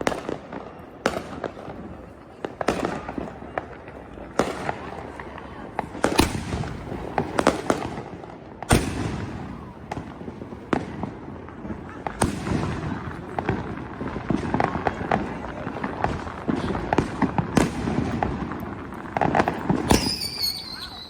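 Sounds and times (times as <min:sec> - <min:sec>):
firecrackers crackling: 0:00.0 - 0:21.0
fireworks bangs: 0:00.0 - 0:21.0.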